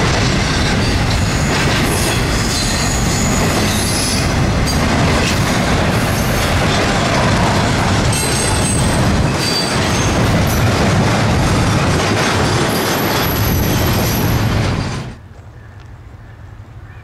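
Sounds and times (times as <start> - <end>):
train wheels rumbling on rails: 0.0 - 15.2.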